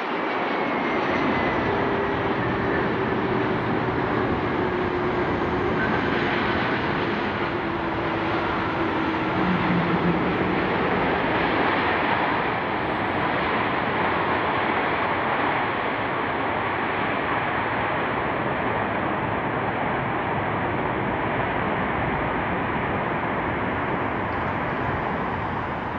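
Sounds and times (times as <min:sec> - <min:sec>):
jet engines rushing: 0:00.0 - 0:25.9.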